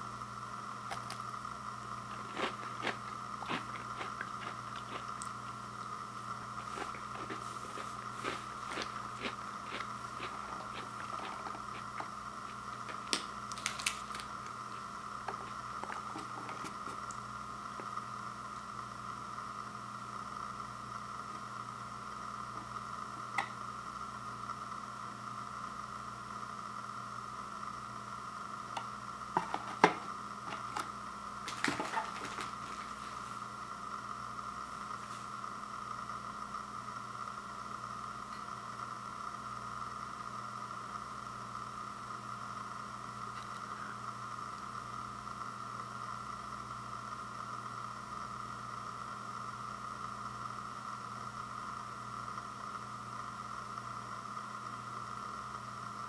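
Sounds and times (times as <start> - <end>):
steady background hum: 0.0 - 56.0.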